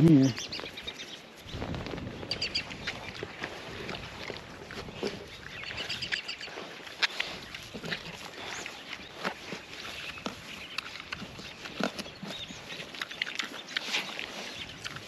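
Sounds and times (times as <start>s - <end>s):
pigs crunching pumpkin: 0.0s - 15.0s
pigs grunting: 2.4s - 15.0s.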